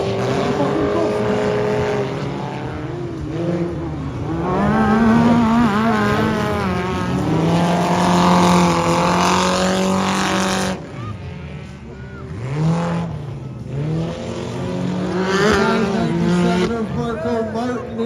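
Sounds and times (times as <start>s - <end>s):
racing buggy engines revving: 0.0s - 18.0s.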